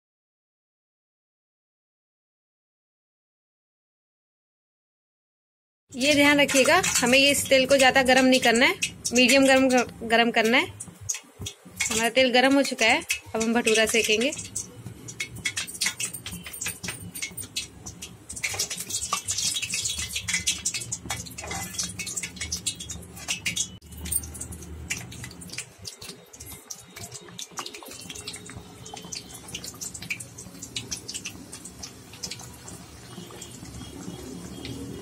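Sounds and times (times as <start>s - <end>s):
oil sizzling and crackling: 5.9s - 35.0s.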